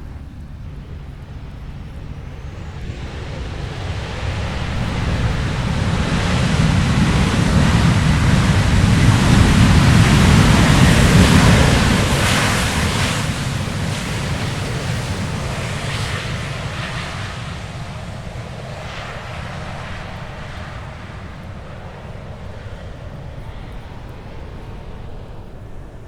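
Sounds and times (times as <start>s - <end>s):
jet aircraft taking off: 0.0s - 26.0s.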